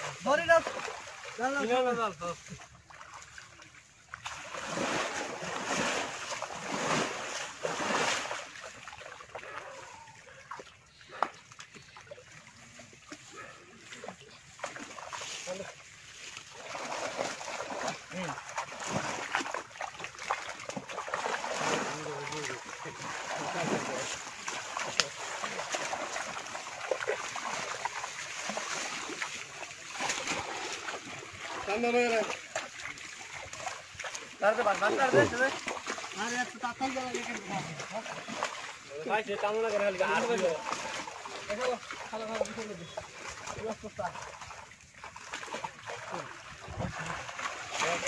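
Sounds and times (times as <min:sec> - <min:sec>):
water sloshing: 0:00.0 - 0:48.0
water splashing heavily: 0:00.0 - 0:48.0.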